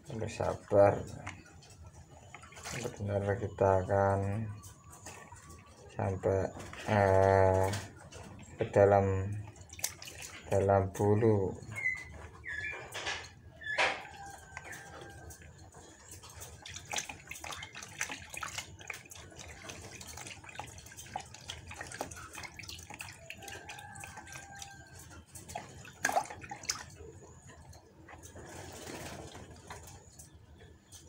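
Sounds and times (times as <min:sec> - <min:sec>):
water splashing in plastic basin: 0:00.0 - 0:12.3, 0:13.8 - 0:30.3.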